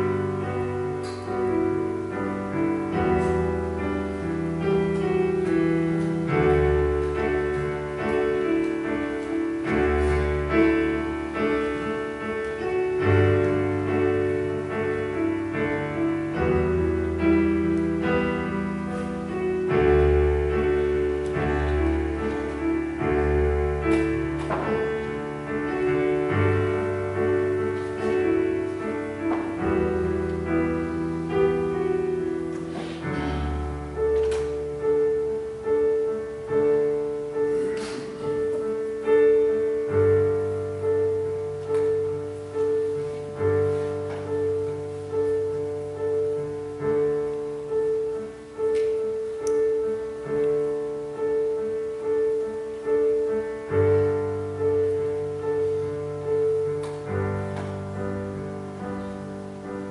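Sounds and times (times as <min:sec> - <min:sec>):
solo piano slow chords: 0:00.0 - 0:59.9.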